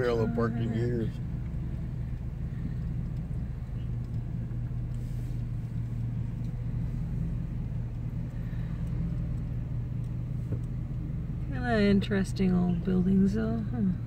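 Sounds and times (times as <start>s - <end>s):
car engine humming: 0.0s - 14.0s
faint road noise: 0.0s - 14.0s.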